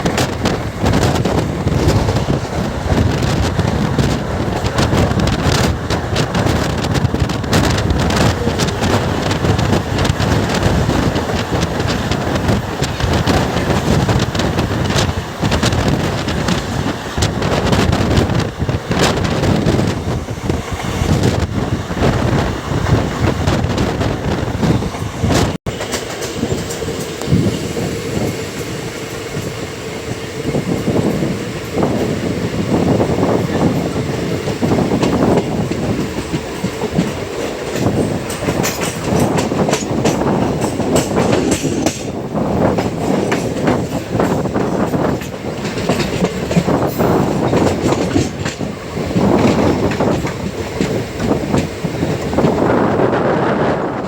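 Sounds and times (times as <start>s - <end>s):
wheels clicking over rail joints: 0.0s - 27.5s, 30.3s - 53.1s
train running noise: 0.0s - 54.0s.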